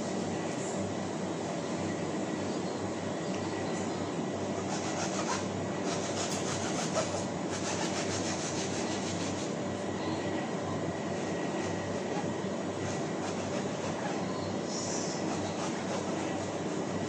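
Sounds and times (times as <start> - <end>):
fan drone: 0.0 - 17.0.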